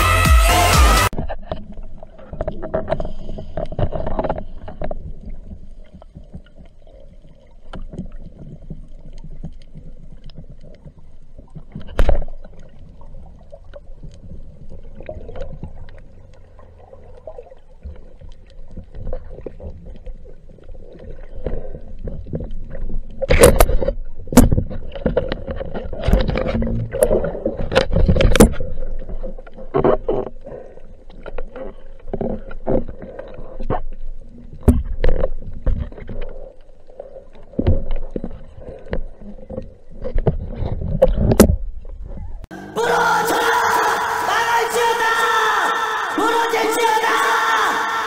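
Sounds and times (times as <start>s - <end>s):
underwater rumble: 1.1s - 42.6s.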